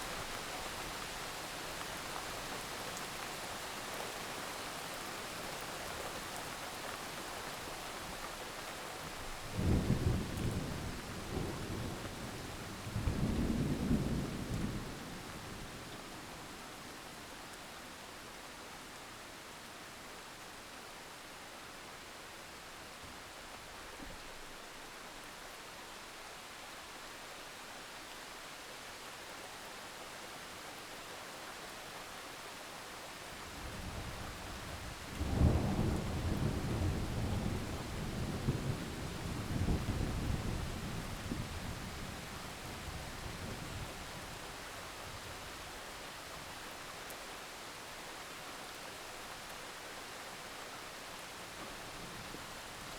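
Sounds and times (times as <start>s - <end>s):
heavy rain falling: 0.0s - 20.1s, 29.6s - 52.9s.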